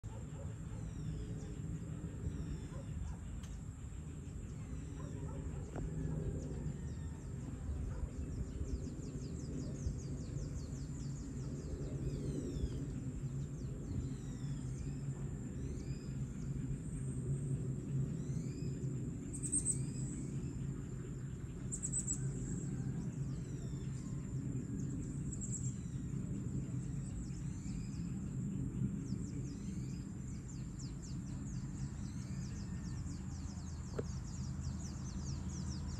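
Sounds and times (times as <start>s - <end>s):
small birds chirping: 0.0s - 35.9s
steady low rumble: 0.0s - 35.9s.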